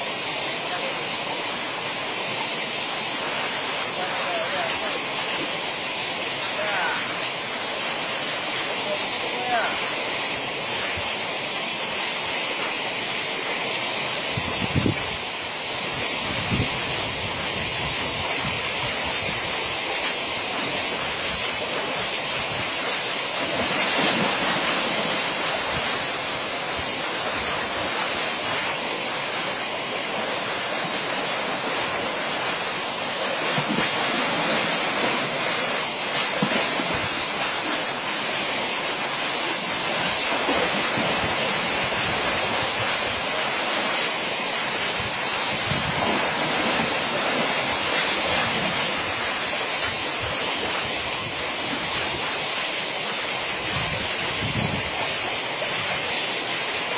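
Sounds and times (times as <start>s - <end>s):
water rushing through ditch: 0.0s - 56.9s.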